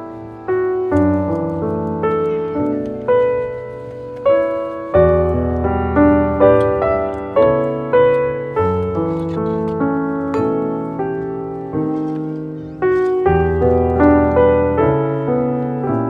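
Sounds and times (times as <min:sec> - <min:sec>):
slow piano piece: 0:00.0 - 0:16.0.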